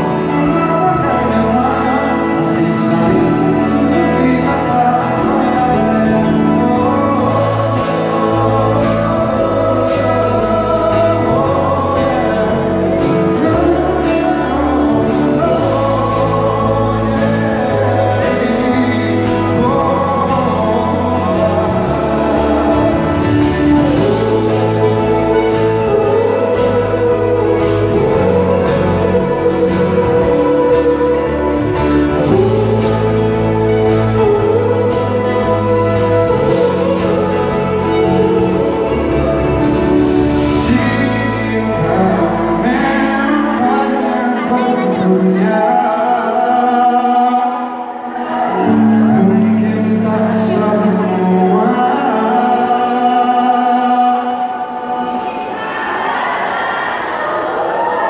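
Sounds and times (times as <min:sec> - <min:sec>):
live band playing pop song: 0:00.0 - 0:58.0
person singing: 0:00.0 - 0:58.0.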